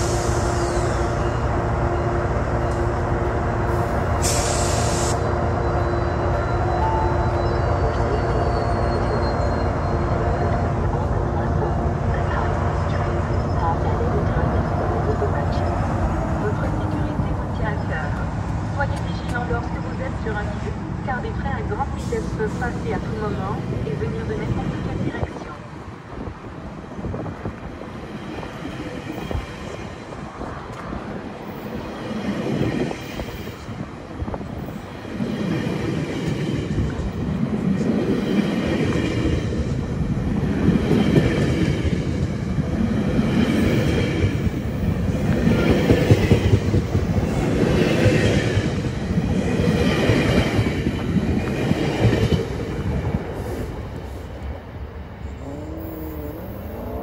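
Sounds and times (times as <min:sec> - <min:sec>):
train cars rumbling past: 0:00.0 - 0:57.0.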